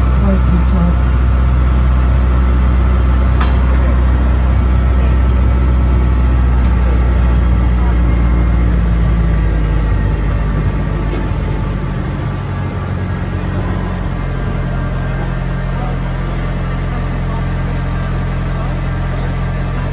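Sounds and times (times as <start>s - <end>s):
tram diesel engine humming: 0.0s - 19.9s.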